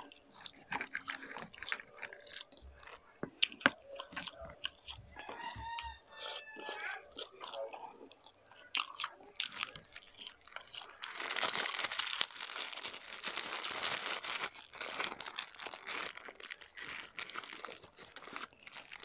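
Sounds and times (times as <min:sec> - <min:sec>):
crispy food crunching: 0:00.0 - 0:19.0.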